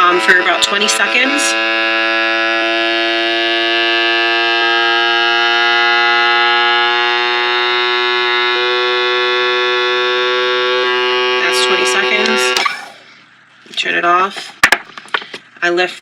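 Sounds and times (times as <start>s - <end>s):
vacuum sealer pump buzzing: 0.0s - 13.2s.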